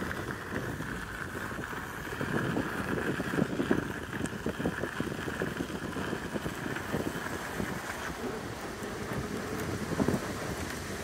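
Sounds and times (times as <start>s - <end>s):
tyre rolling over gravel: 0.0s - 11.0s
wind buffeting microphone: 0.0s - 11.0s.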